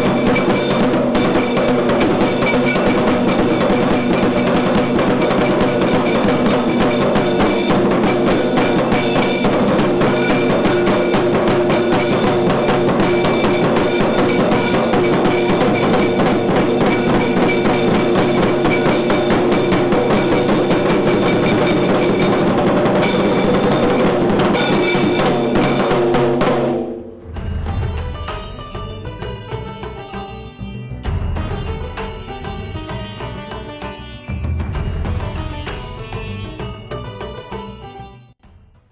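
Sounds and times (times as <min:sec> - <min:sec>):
fast drumming: 0:00.0 - 0:30.4, 0:31.0 - 0:37.7
steady held tones: 0:00.0 - 0:38.1.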